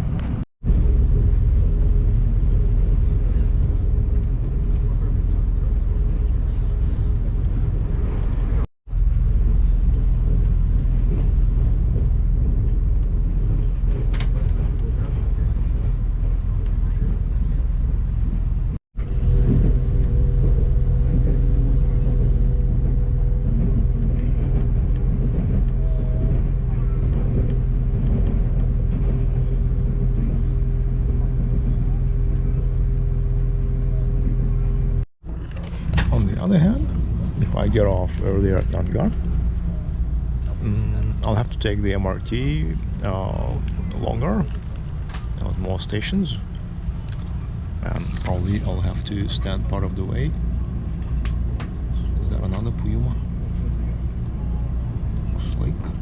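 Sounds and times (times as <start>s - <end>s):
train rumble inside carriage: 0.0s - 56.0s.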